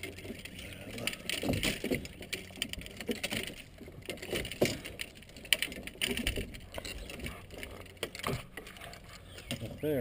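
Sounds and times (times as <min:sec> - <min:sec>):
fishing gear clicking and rustling: 0:00.0 - 0:10.0.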